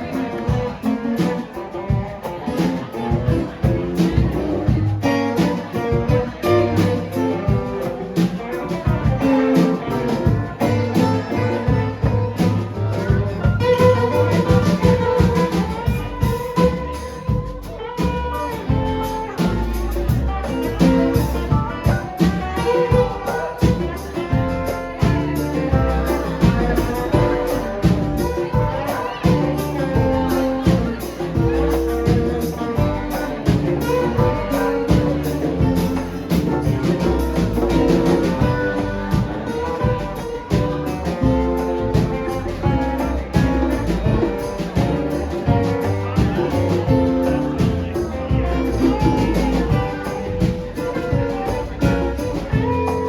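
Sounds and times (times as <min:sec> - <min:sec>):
bass: 0:00.0 - 0:53.0
drums keeping a steady beat: 0:00.0 - 0:53.0
guitar: 0:00.0 - 0:53.0.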